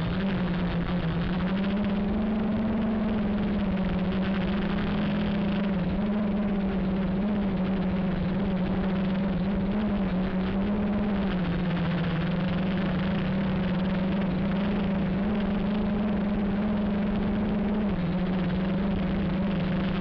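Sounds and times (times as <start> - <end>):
drone propellers droning: 0.0 - 20.0.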